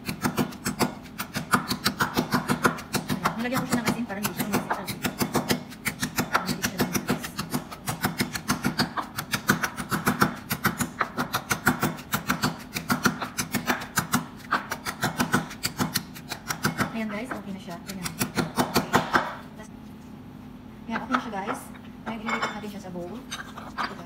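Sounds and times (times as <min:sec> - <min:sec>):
pestle pounding in wooden mortar: 0:00.0 - 0:19.4.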